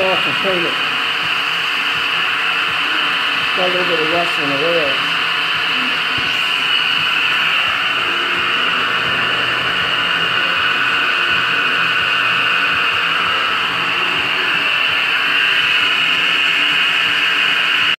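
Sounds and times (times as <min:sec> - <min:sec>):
pottery wheel mechanical whine: 0:00.0 - 0:18.0.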